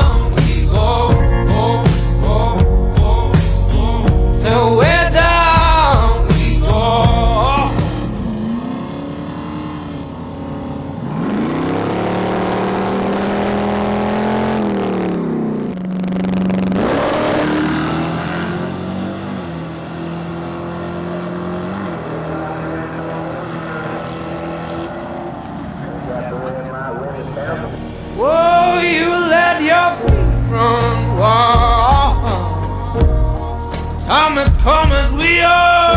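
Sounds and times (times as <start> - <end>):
car engine revving: 3.4 - 35.9.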